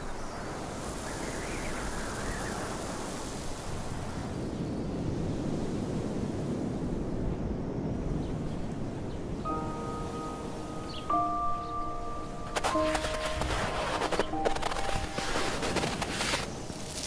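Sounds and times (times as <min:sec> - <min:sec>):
rushing wind: 0:00.0 - 0:17.0.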